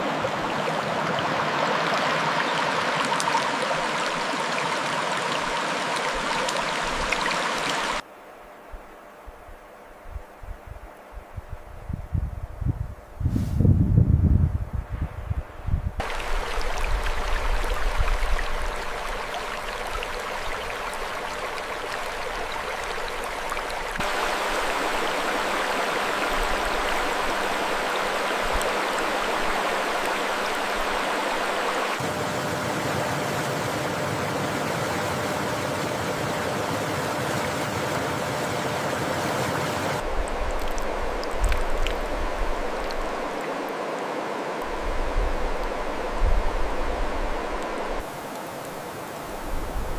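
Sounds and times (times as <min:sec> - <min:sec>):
mountain stream water rushing: 0:00.0 - 0:08.1, 0:16.0 - 0:49.9.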